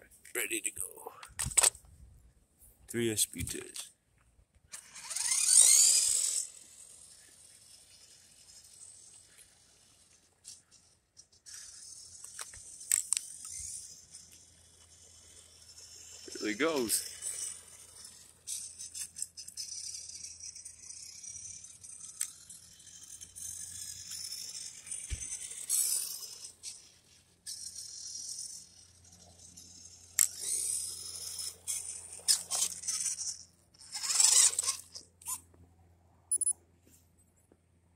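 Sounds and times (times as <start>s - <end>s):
rc truck motor whine: 4.6s - 35.5s.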